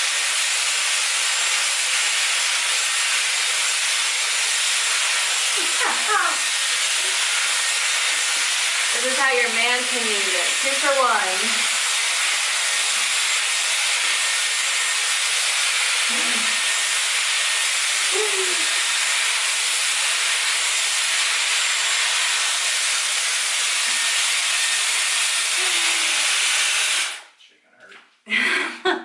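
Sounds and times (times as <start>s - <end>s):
hair styler fan hissing: 0.0s - 27.3s.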